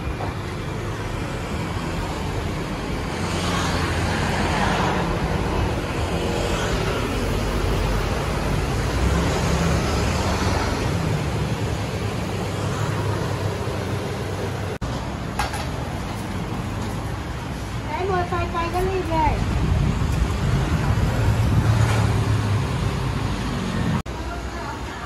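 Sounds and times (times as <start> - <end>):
road traffic din: 0.0 - 25.0.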